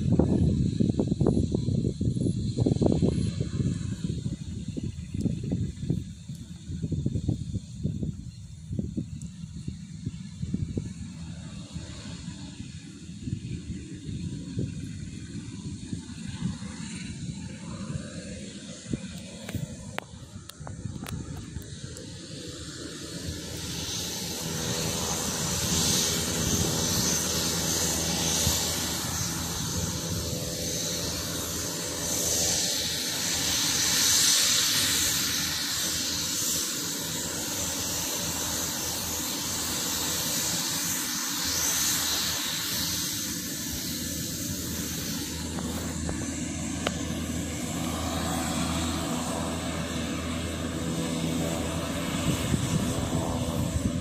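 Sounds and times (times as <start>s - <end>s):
hissing turbine whine: 0.0s - 54.0s
turboprop engines droning: 0.0s - 54.0s.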